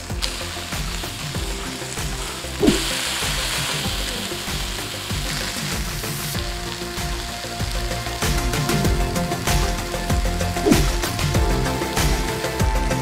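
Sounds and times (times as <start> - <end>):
background music: 0.0 - 13.0
chicken sizzling in hot oil: 0.0 - 13.0.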